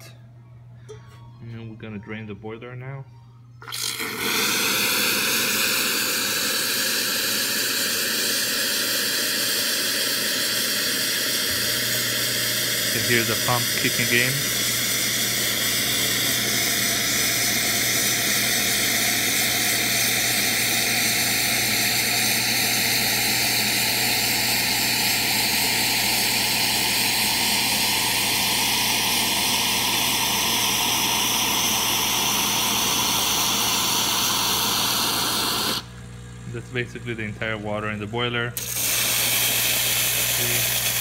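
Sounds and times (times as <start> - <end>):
pump humming: 3.6 - 41.0
steam and hot water hissing: 3.7 - 35.9, 38.6 - 41.0.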